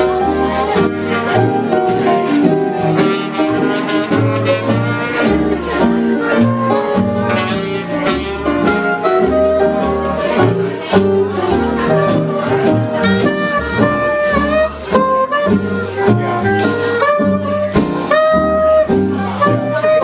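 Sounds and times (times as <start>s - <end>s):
jazz band playing: 0.0s - 20.0s.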